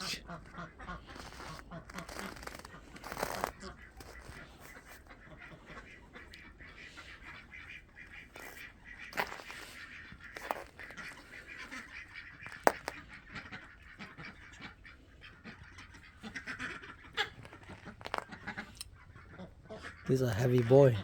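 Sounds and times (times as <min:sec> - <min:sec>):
ducks soft breathy calls: 0:00.0 - 0:20.1.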